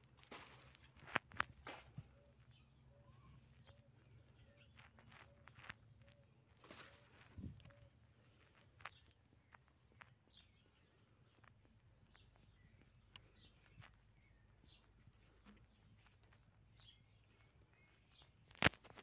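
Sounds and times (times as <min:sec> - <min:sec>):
small bird chirping: 0:00.8 - 0:19.0.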